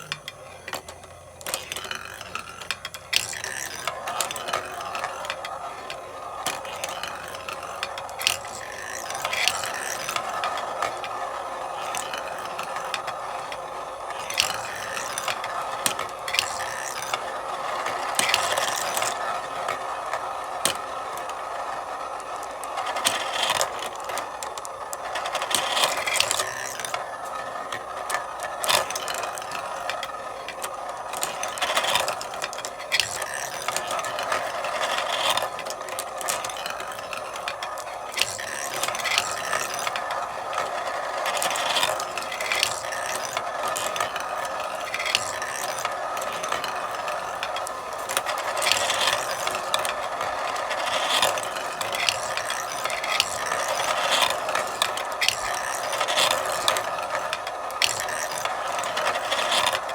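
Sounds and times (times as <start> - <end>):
marbles clicking: 0.0 - 59.9
marbles rolling on a marble run: 0.0 - 59.9.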